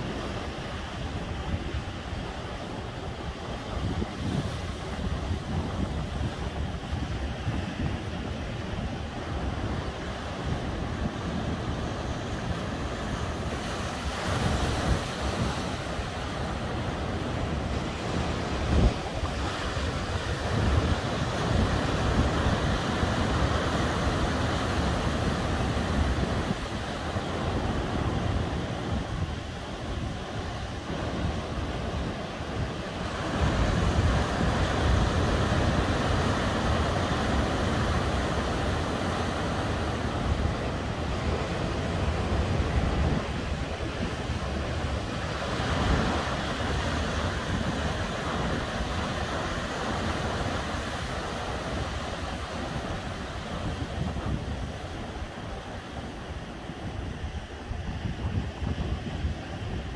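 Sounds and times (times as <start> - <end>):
ocean surf breaking on shore: 0.0 - 59.9
wind rumbling on microphone: 0.0 - 59.9.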